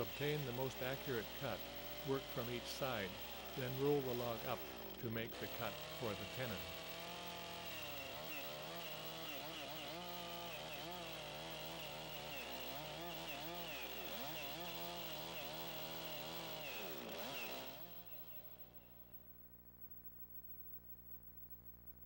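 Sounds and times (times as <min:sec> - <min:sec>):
chainsaw cutting log: 0:00.0 - 0:18.9.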